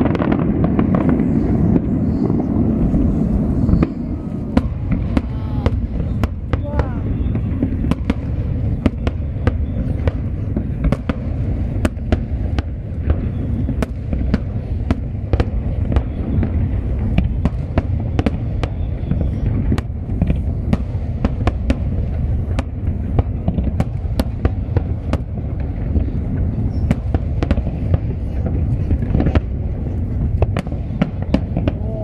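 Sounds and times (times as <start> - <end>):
fireworks booming: 0.0 - 32.0
fireworks sharp cracks: 0.0 - 32.0.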